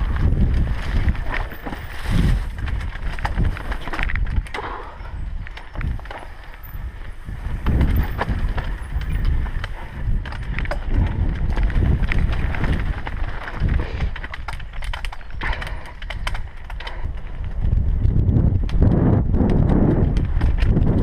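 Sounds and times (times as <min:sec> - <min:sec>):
mountain bike rattling over rocks: 0:00.0 - 0:21.0.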